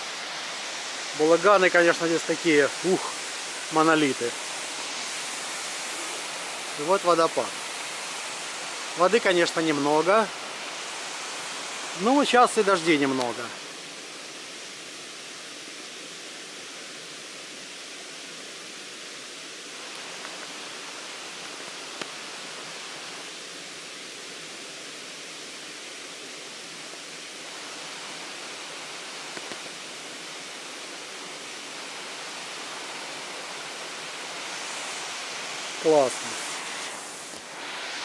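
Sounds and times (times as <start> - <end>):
waterfall splashing over rock: 0.0 - 38.0.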